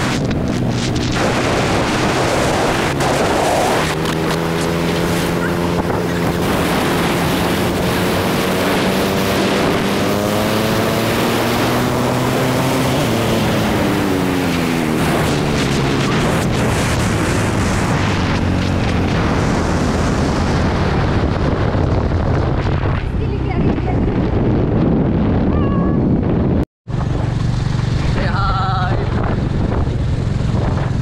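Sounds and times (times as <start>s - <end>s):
motorcycle engine running: 0.0s - 31.0s
wind noise on microphone: 0.0s - 31.0s.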